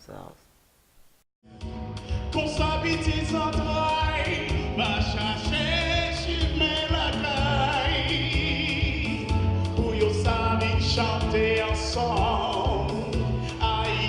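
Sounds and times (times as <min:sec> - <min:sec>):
song with steady beat: 0:01.5 - 0:14.0.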